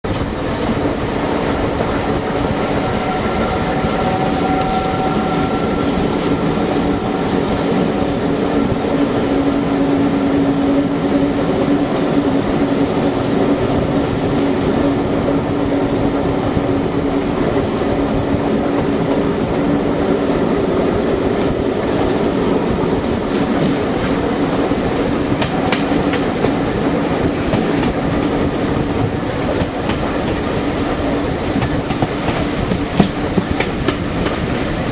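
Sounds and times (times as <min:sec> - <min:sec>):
train wheels rumbling on track: 0:00.0 - 0:34.9.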